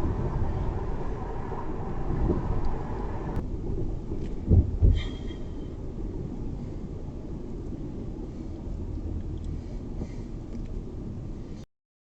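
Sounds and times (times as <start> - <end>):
car road noise rumble: 0.0 - 11.7.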